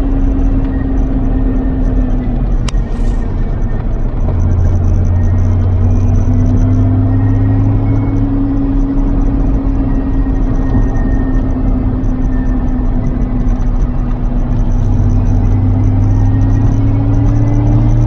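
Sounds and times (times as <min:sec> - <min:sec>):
car engine cruising: 0:00.0 - 0:18.0
tyre and road noise: 0:00.0 - 0:18.0.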